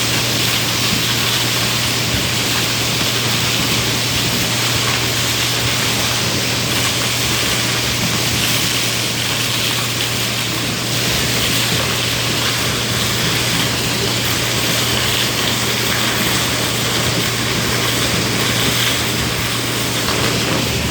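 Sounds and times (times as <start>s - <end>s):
large vacuum machine running: 0.0s - 20.9s.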